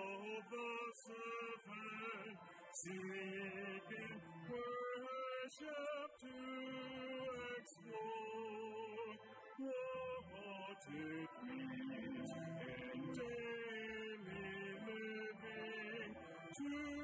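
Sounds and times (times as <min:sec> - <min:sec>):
hymn singing: 0:00.0 - 0:17.0.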